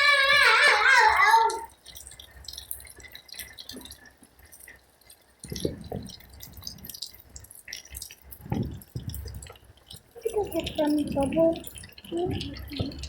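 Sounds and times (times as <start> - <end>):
raindrops ticking: 0.0 - 13.0.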